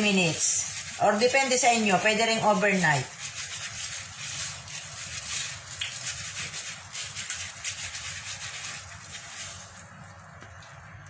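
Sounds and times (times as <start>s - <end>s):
squelching of marinated chicken: 0.0s - 10.9s
plastic glove rubbing: 0.0s - 11.0s.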